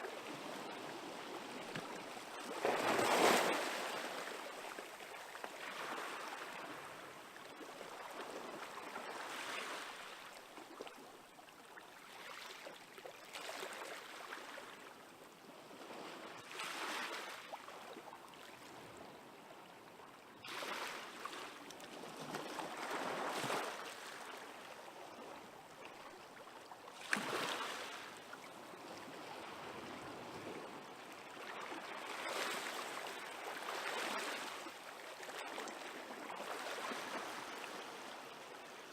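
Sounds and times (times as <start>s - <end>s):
small waves washing onto shore: 0.0s - 11.0s, 11.8s - 38.9s.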